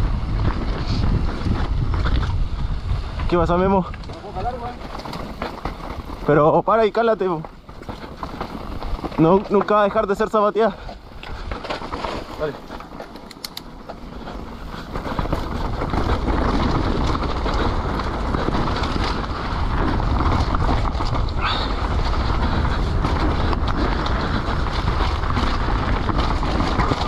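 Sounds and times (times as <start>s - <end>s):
bike rattling: 0.0s - 27.0s
tyres on dirt: 0.0s - 27.0s
wind rushing on microphone: 0.0s - 27.0s.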